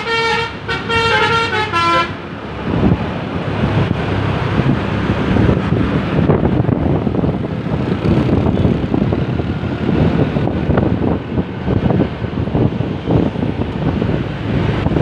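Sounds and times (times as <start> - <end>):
bus passing close by: 0.0 - 15.0
wind buffeting microphone: 2.4 - 15.0.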